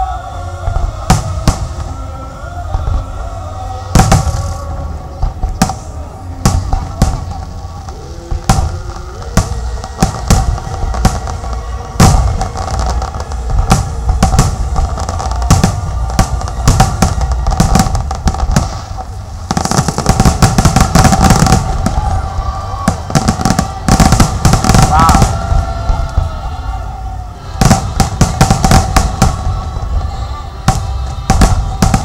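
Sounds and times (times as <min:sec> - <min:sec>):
background music: 0:00.0 - 0:32.0
fireworks bursting with sharp bangs: 0:00.0 - 0:32.0.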